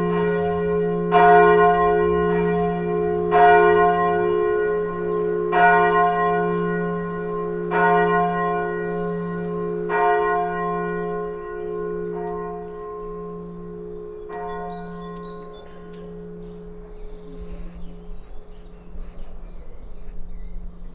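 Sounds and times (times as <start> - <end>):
church bell ringing: 0.0 - 20.9.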